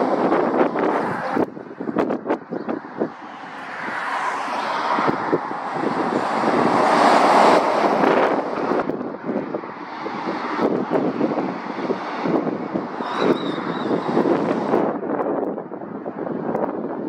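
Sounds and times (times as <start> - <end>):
lorry passing: 0.0 - 14.9
wind buffeting microphone: 0.0 - 17.0.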